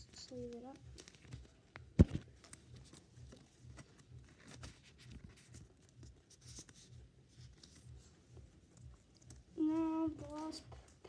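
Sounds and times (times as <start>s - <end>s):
trading cards clicking and scratching: 0.0s - 11.0s.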